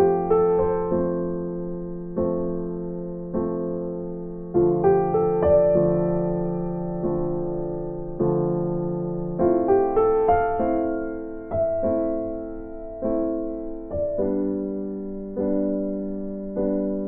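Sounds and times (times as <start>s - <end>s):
piano-like keyboard chords: 0.0s - 17.0s.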